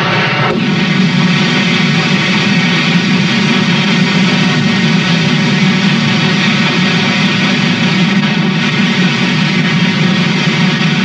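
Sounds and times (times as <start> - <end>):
steam locomotive roaring: 0.0 - 11.0.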